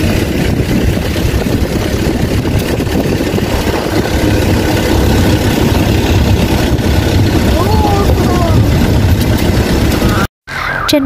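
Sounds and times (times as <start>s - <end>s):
vehicle engine running: 0.0s - 10.3s
road noise: 0.0s - 11.0s.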